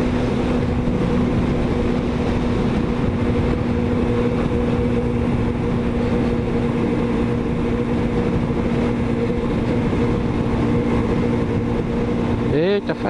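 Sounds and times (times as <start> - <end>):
wind noise on microphone: 0.0 - 12.8
motorcycle engine cruising: 0.0 - 13.0.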